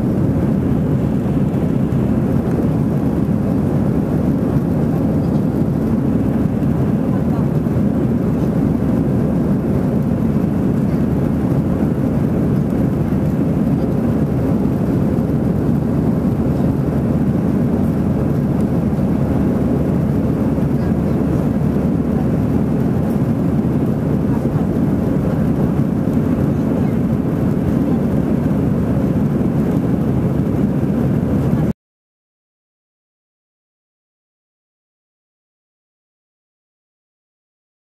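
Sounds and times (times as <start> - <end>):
airplane cabin engine rumble: 0.0 - 31.8.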